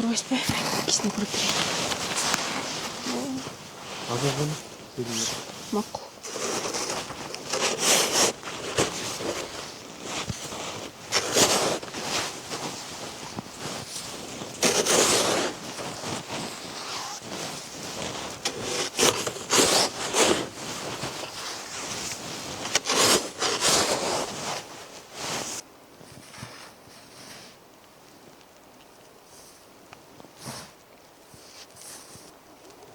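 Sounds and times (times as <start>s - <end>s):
rustling and scraping handling noise: 0.0s - 32.9s.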